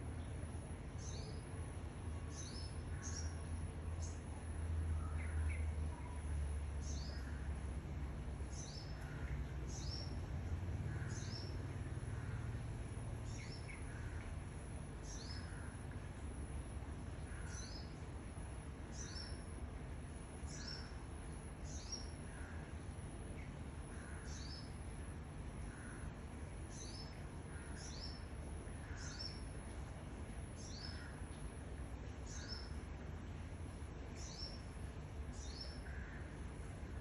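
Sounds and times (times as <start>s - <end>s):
low background rumble: 0.0s - 37.0s
songbird chirping: 0.0s - 37.0s.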